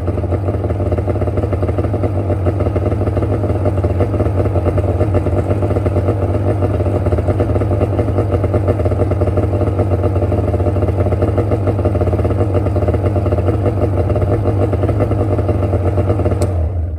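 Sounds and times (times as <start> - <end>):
snowmobile engine idling: 0.0 - 16.9.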